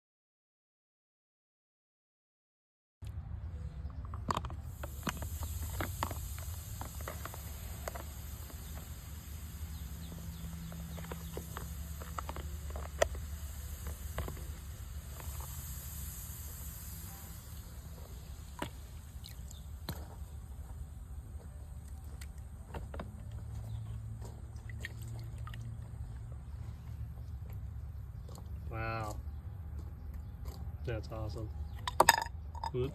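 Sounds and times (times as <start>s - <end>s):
insects chirring: 4.7s - 32.9s.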